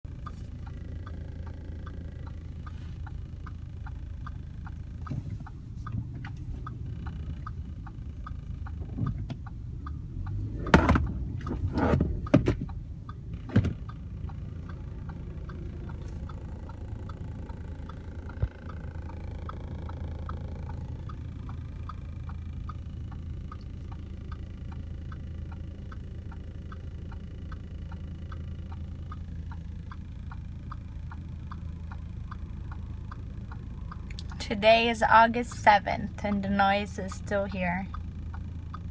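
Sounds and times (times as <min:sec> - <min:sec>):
light ticking rattle: 0:00.0 - 0:38.9
road rumble inside car: 0:00.0 - 0:38.9.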